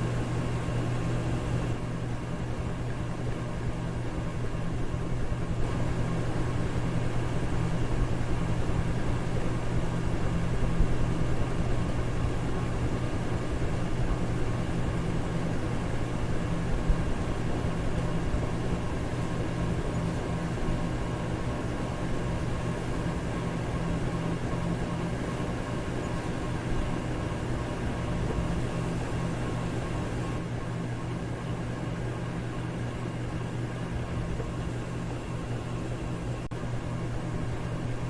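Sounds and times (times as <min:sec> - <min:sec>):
electric fan running: 0:00.0 - 0:38.0.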